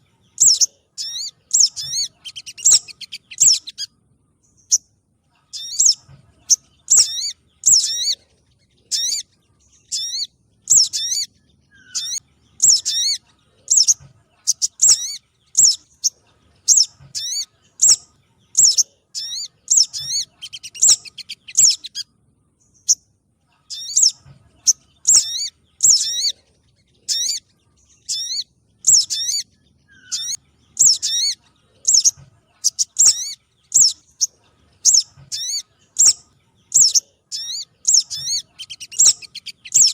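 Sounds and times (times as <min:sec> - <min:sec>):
small songbird chirps: 0:00.0 - 0:39.9.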